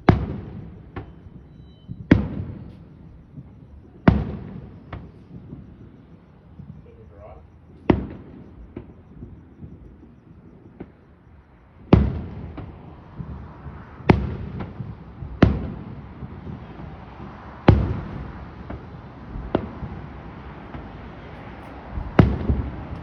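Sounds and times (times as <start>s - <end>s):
fireworks booming with echo: 0.0s - 23.0s
small fireworks pops: 0.0s - 23.0s.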